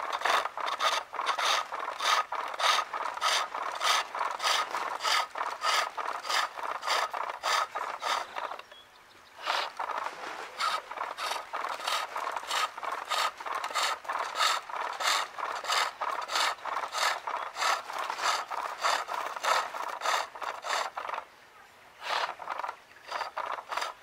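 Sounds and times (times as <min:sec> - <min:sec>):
chisel scraping turning wood: 0:00.0 - 0:08.6, 0:09.4 - 0:21.2, 0:22.0 - 0:24.0.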